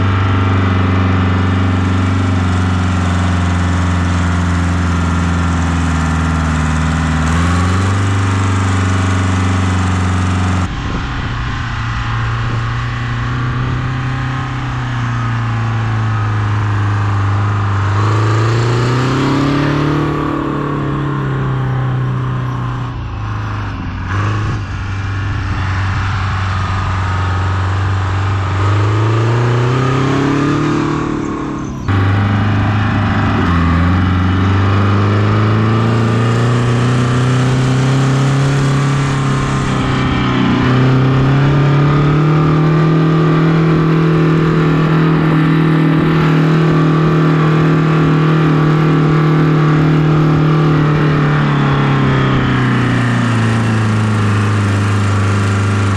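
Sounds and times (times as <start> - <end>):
distant tractor revving: 0.0 - 55.9
tractor diesel engine running: 0.0 - 55.9.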